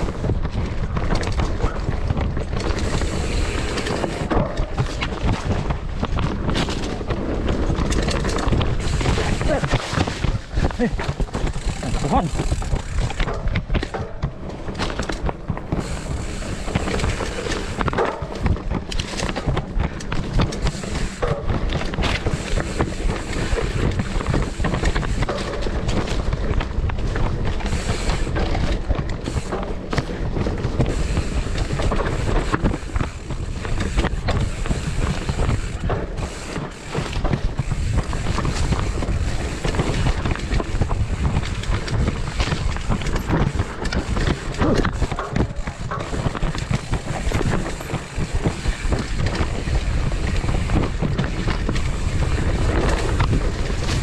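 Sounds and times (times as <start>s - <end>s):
mountain bike rattling: 0.0s - 54.0s
tyres on dirt and rock: 0.0s - 54.0s
wind rumble on microphone: 0.0s - 54.0s.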